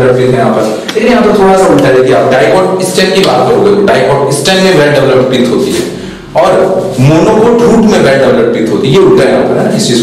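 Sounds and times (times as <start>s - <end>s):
man speaking: 0.0s - 10.0s.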